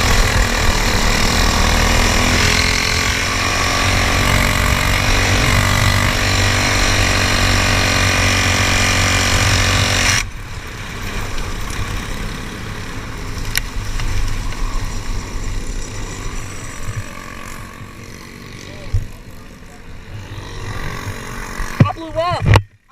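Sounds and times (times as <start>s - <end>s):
kart engine running: 0.0s - 22.8s.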